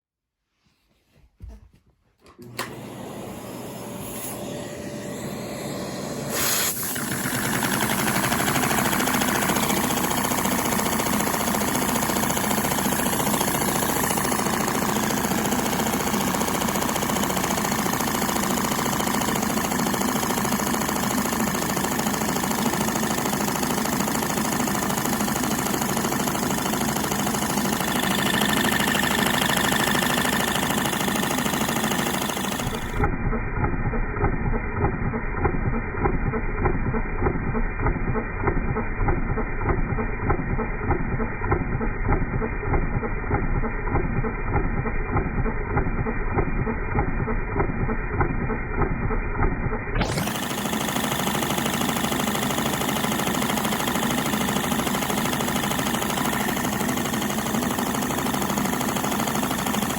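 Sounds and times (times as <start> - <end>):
small vacuum engine running: 2.2 - 59.9.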